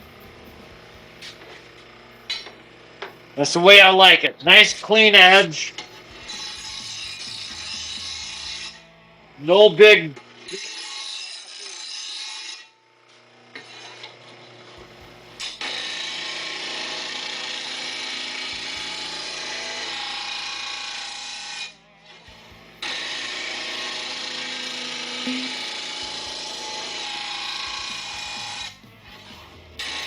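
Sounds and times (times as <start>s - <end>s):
blade grinder grinding metal: 0.0s - 3.4s, 4.5s - 9.0s, 9.8s - 30.0s.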